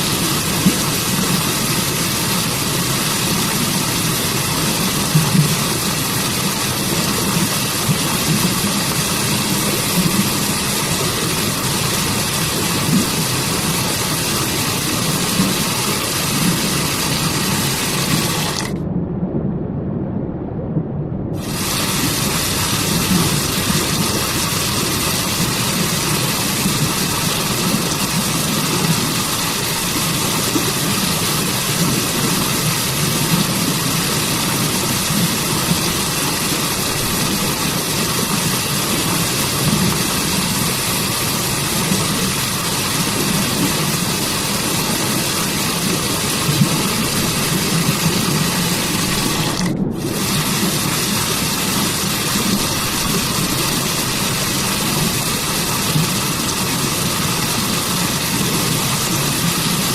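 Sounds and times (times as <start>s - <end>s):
waterfall rushing: 0.0s - 18.8s, 21.4s - 59.9s.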